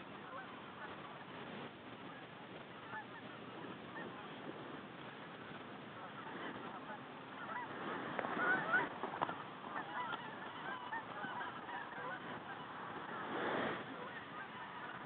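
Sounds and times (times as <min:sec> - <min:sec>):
birds honking overhead: 0:00.0 - 0:01.3, 0:02.1 - 0:15.0.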